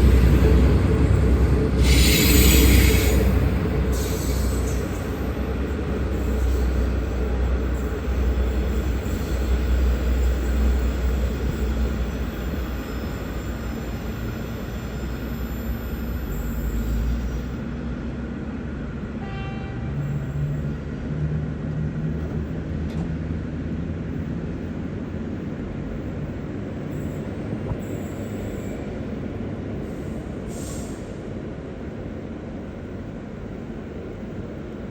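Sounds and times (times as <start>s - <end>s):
passenger train rumbling on rails: 0.0s - 34.9s.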